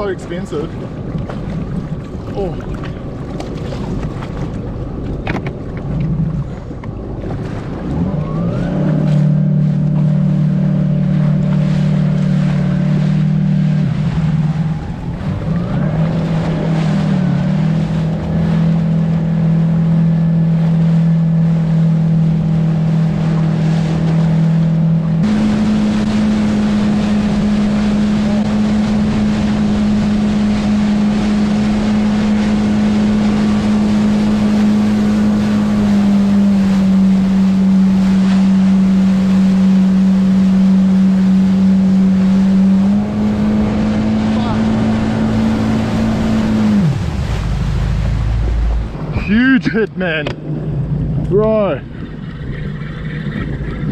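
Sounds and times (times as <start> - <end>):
jet ski engine running: 0.0 - 53.9
water rushing: 0.0 - 53.9.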